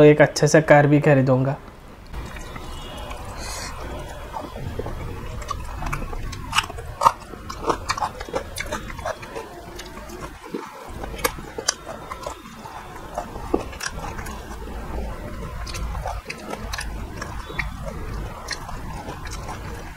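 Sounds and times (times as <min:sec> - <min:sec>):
person chewing with wet mouth clicks: 0:02.1 - 0:19.9.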